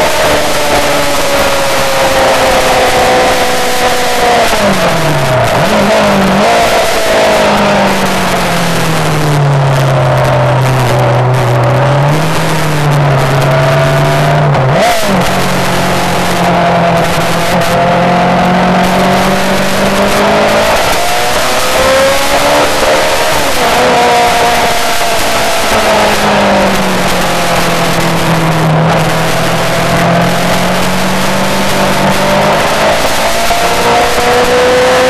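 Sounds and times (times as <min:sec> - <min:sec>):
sport bike engine revving: 0:00.0 - 0:35.0.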